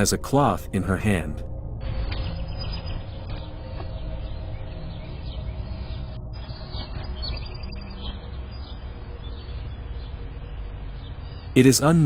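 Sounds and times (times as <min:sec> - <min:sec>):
bird chirps: 0:00.0 - 0:12.0
low rumble: 0:00.0 - 0:12.0.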